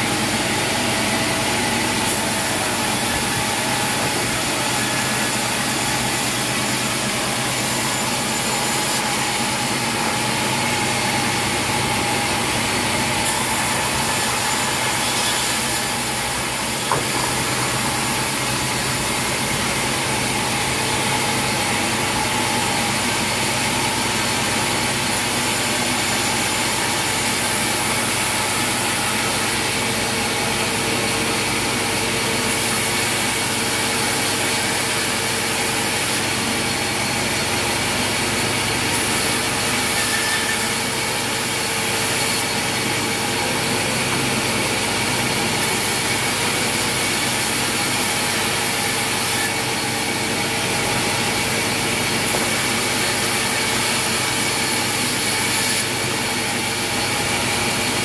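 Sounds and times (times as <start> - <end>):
band saw cutting timber: 0.0 - 58.0
sawmill machine drone: 0.0 - 58.0.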